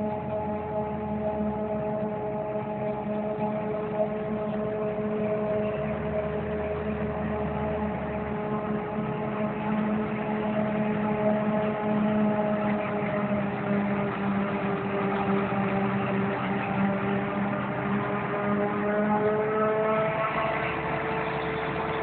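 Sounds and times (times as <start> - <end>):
engine hum: 0.0 - 22.0.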